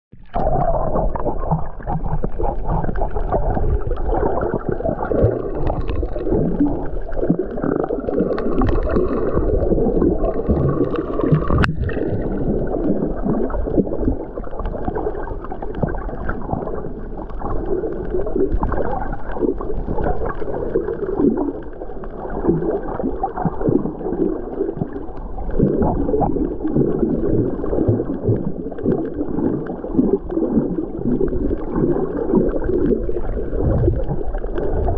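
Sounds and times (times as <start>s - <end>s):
muffled underwater water rushing: 0.1s - 34.9s.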